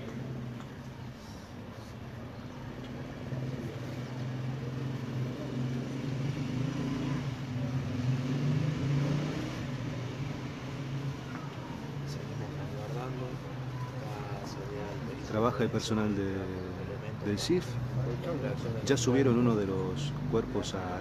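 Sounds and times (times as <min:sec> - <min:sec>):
street noise: 0:00.0 - 0:21.0
vehicle engine humming: 0:00.0 - 0:21.0.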